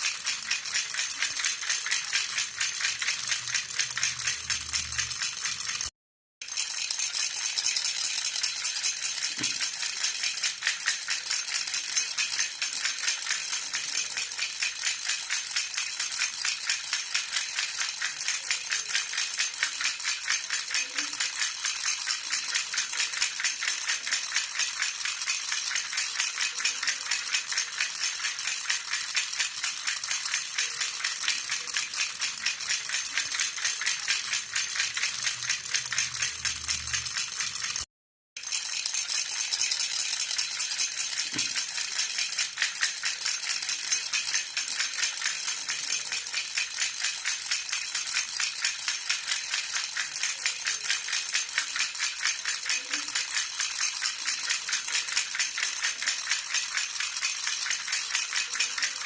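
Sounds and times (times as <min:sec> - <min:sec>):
baby rattle jingling: 0:00.0 - 0:59.0.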